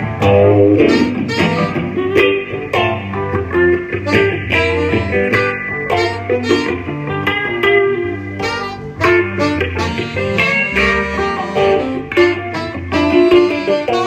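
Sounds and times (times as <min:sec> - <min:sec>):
bass: 0:00.0 - 0:14.0
picked guitar notes: 0:00.0 - 0:14.0.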